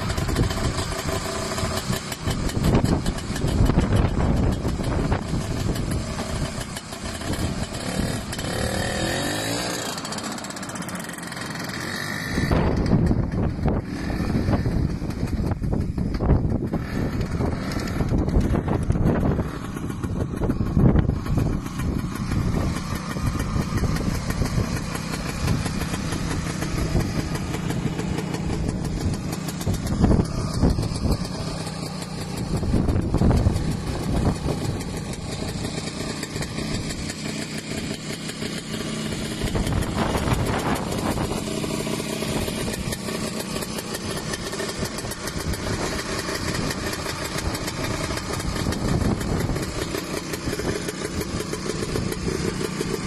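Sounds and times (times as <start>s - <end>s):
snowmobile engine idling: 0.0s - 53.0s.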